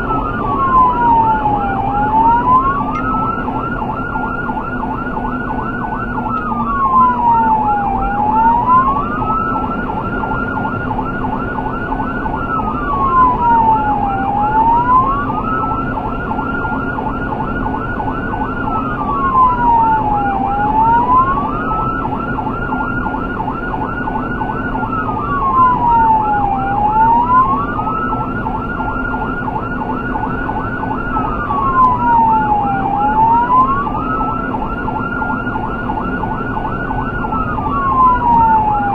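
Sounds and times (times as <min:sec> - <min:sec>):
emergency vehicle siren wailing: 0:00.0 - 0:38.9.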